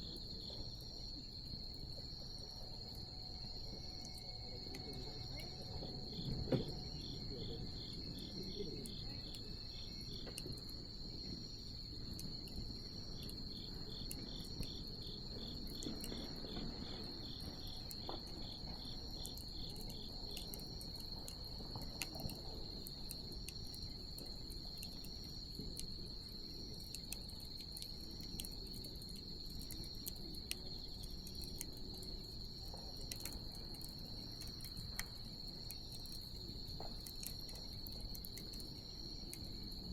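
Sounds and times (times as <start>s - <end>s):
insect chirping in rapid pulses: 0.0s - 39.9s
insect trill: 0.0s - 39.9s
bonfire crackling and popping: 0.2s - 39.9s.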